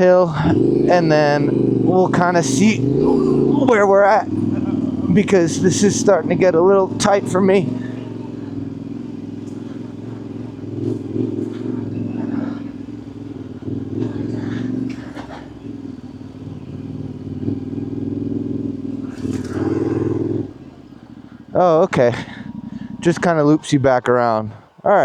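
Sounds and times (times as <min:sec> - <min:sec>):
motorcycle engine climbing hill: 0:00.0 - 0:25.0.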